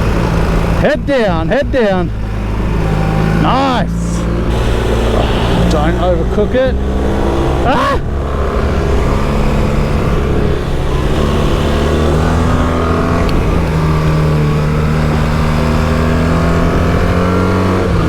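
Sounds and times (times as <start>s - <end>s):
motorcycle engine pulling hard: 0.0s - 18.0s.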